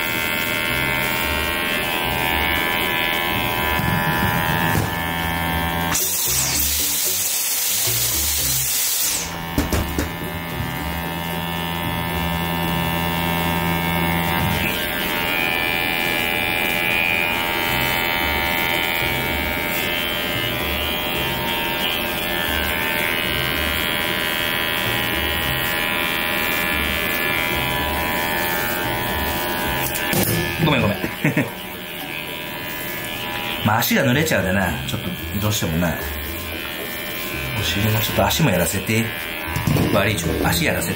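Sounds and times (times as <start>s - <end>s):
electric hair clippers buzzing: 0.0s - 40.9s.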